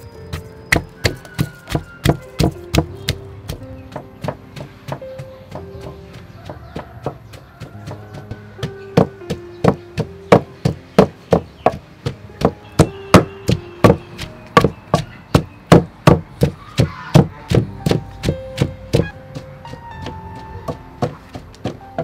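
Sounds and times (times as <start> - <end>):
faint background music: 0.0 - 22.0
pestle pounding in mortar: 0.0 - 22.0.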